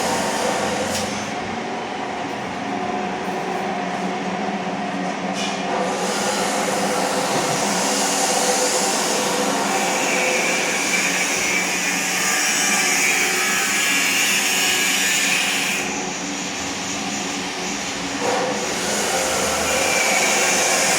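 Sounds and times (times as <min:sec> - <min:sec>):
high-pitched machine whine: 0:00.0 - 0:20.9.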